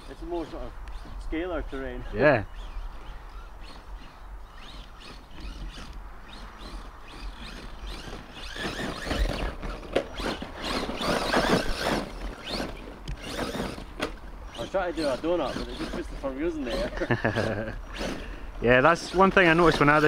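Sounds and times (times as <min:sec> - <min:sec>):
rc truck motor driving hard: 0:00.0 - 0:20.0
tyres churning dirt: 0:00.0 - 0:20.0.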